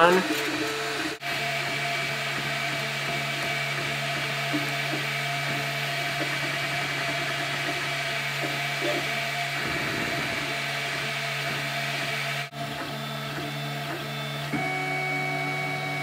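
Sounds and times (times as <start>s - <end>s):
stepper motors whirring: 0.0s - 16.0s.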